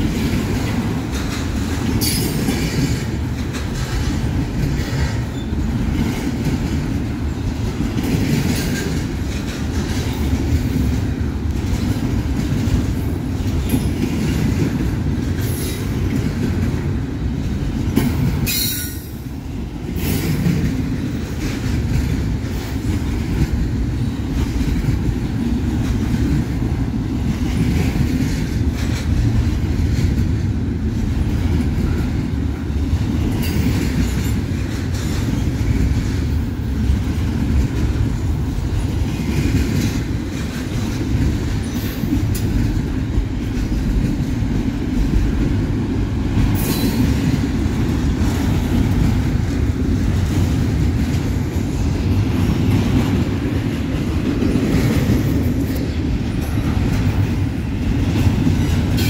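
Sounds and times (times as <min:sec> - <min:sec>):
freight train cars rumbling: 0:00.0 - 0:59.0
wheels clattering on rails: 0:00.0 - 0:59.0.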